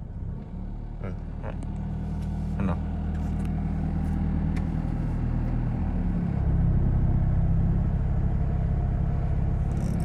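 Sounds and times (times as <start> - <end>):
car engine low drone: 0.0 - 10.0.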